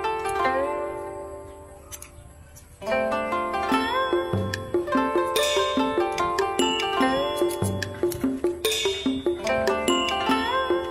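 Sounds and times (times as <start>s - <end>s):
plucked instrumental melody: 0.0s - 10.9s.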